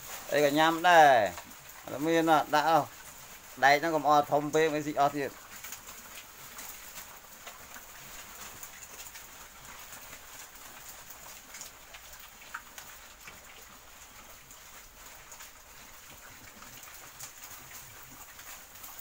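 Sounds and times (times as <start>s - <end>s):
pigs munching and snuffling: 0.0s - 19.0s.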